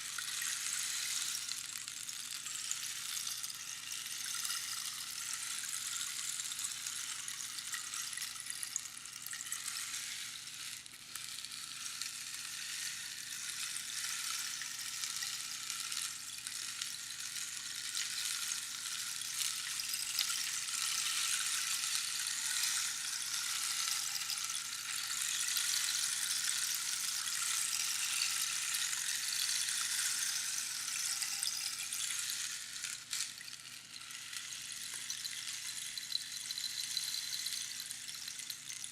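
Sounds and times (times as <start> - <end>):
rainstick pebbles trickling: 0.0 - 38.9.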